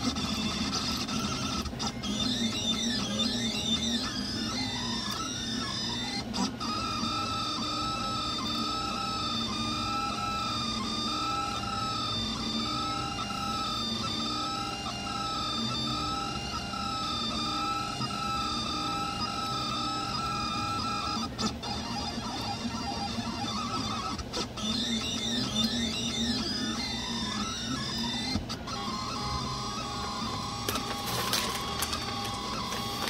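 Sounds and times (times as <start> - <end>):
machine hum: 0.0 - 33.0
stepper motors whining: 0.0 - 33.0.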